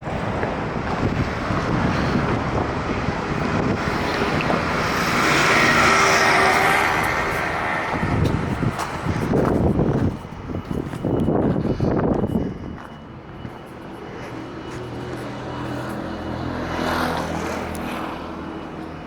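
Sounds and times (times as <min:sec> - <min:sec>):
wind buffeting microphone: 0:00.0 - 0:17.9
vehicle noise: 0:00.0 - 0:19.0.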